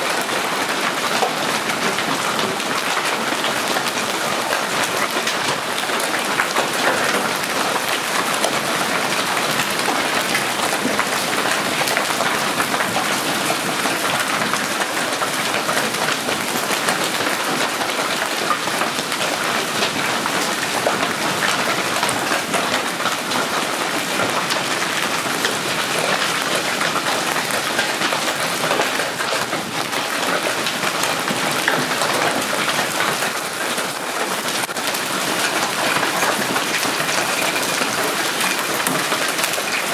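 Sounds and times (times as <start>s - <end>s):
hail clattering on hard surfaces: 0.0s - 39.9s.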